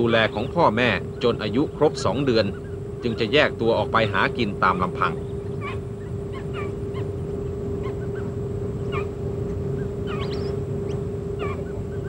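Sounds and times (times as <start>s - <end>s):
bird chirps: 0.0s - 7.2s, 7.8s - 12.0s
steady low hum: 0.0s - 12.0s.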